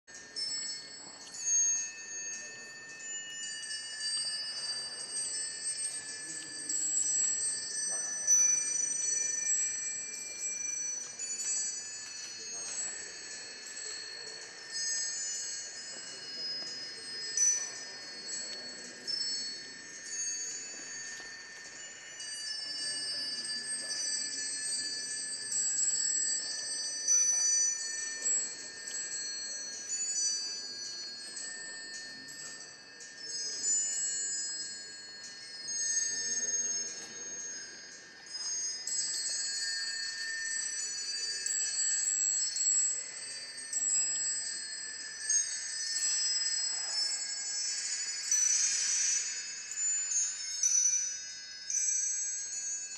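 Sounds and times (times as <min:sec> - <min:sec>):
small bells chiming: 0:00.0 - 0:52.9.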